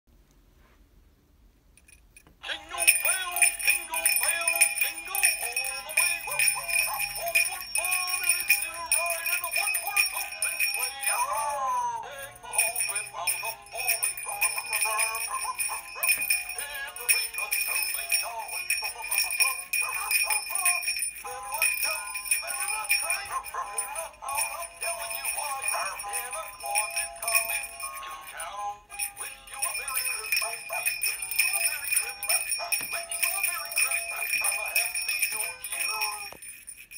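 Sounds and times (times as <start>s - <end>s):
electronic christmas song: 2.4s - 36.9s.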